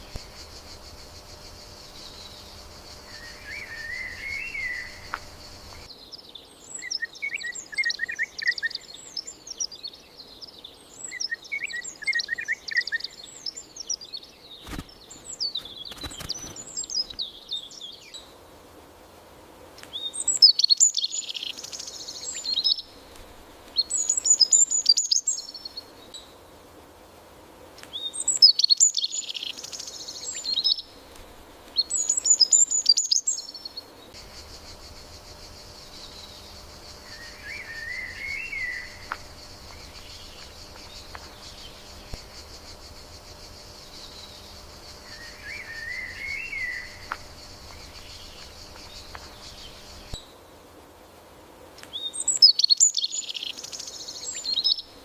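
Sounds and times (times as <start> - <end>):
high insect trill: 0.0 - 50.9
songbirds chirping: 0.0 - 55.0.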